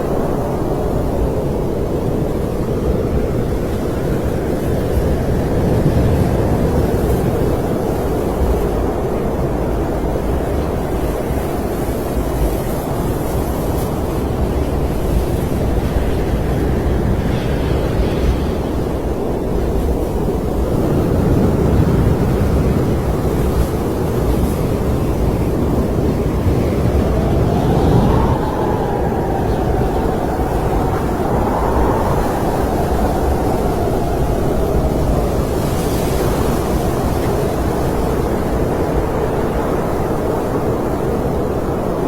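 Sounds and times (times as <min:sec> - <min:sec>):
snowstorm wind rushing: 0:00.0 - 0:42.0.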